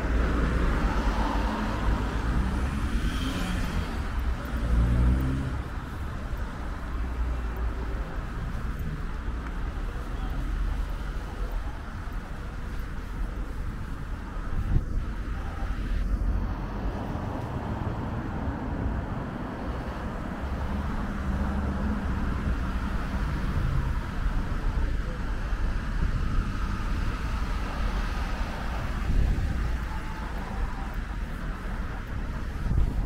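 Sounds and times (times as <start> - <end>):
road noise hiss: 0.0 - 33.0
traffic rumble: 0.0 - 33.0.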